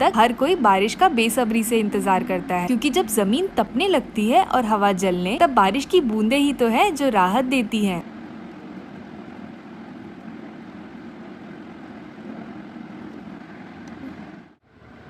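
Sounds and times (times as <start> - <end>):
steady even noise: 0.0 - 14.6.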